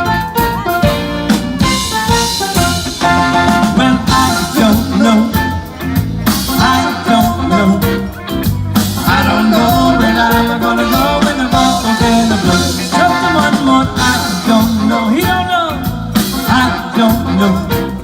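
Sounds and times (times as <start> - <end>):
live band playing ska: 0.0 - 18.0.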